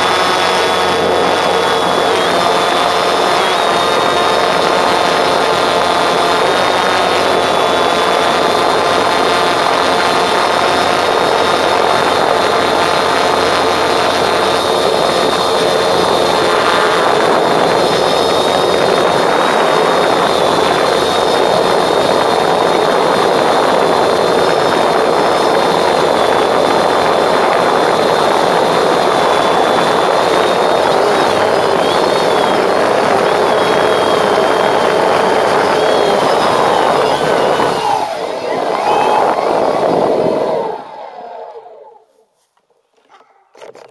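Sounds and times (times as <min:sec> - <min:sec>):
drone propellers whirring: 0:00.0 - 0:42.1.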